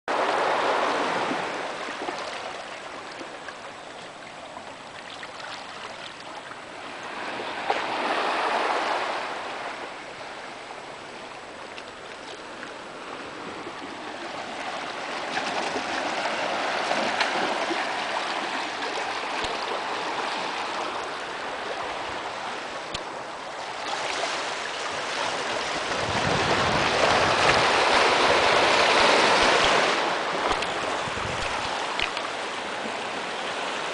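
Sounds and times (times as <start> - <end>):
waves washing over rocks: 0.1 - 33.9.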